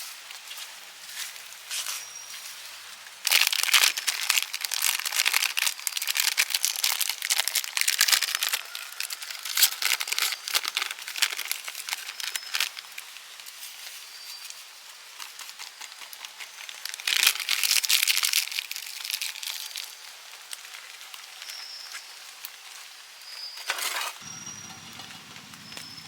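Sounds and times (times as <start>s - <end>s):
crinkling and crackling: 0.0s - 26.0s.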